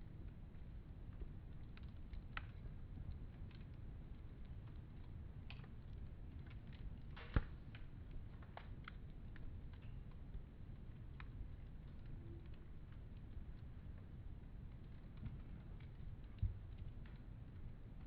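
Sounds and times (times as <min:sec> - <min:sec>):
low steady rumble: 0:00.0 - 0:18.0
wood fire crackling: 0:00.0 - 0:18.0.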